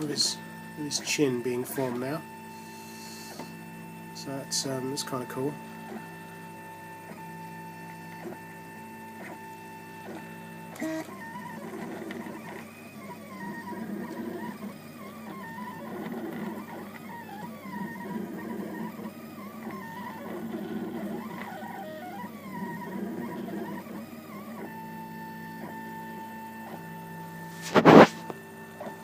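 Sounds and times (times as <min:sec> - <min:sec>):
stepper motors whining: 0:00.0 - 0:29.0.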